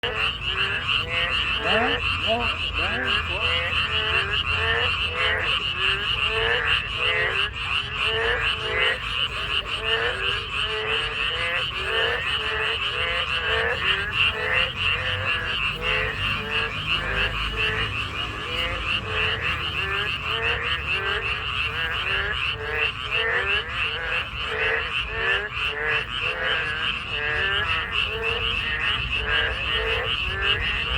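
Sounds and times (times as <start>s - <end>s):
frogs croaking in chorus: 0.0s - 30.9s.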